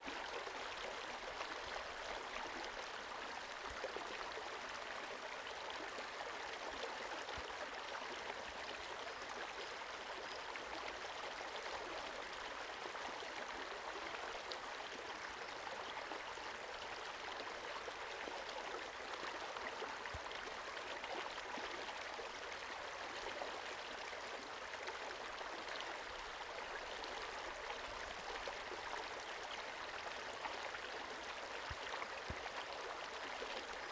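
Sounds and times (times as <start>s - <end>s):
creek babbling: 0.0s - 33.9s.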